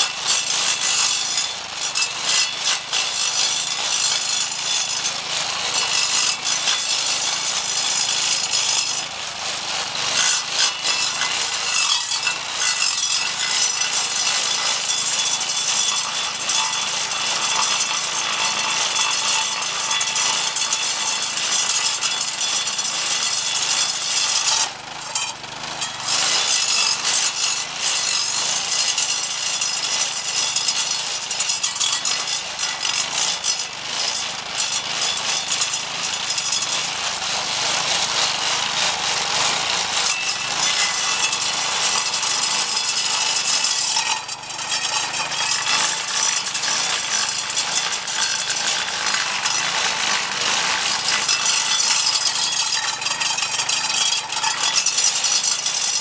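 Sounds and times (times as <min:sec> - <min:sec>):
stump grinder grinding wood: 0:00.0 - 0:56.0.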